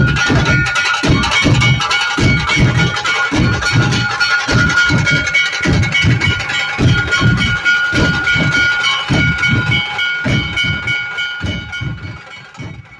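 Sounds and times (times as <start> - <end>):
deep booming drums: 0.0 - 12.9
high ringing tone: 0.0 - 12.9.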